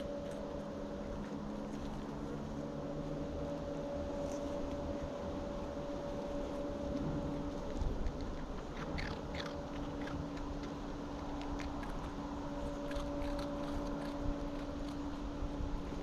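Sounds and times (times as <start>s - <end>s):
animal chewing and crunching food: 0.0s - 16.0s
steady hum: 0.0s - 16.0s.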